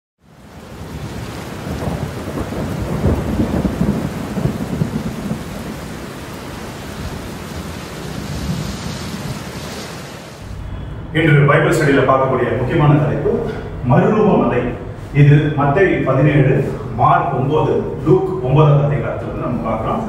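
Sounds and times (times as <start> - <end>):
rain hissing: 0.2 - 20.0
thunder rumbling: 0.4 - 20.0.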